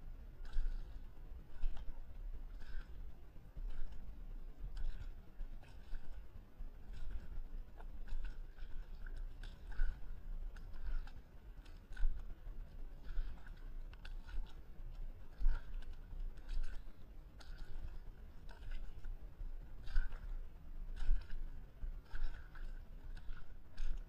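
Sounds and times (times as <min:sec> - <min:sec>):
footsteps on muddy path: 0:00.0 - 0:24.0
low microphone rumble: 0:00.0 - 0:24.0.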